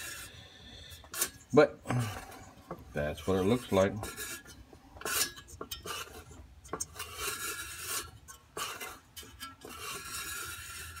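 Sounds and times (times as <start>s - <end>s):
metal scraping inside drum: 0.0s - 11.0s.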